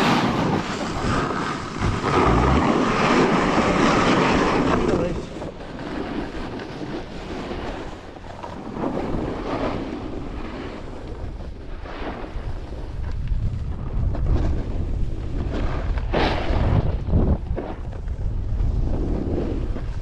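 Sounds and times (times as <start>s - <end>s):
snowboard scraping over snow: 0.0s - 20.0s
wind buffeting microphone: 0.0s - 20.0s.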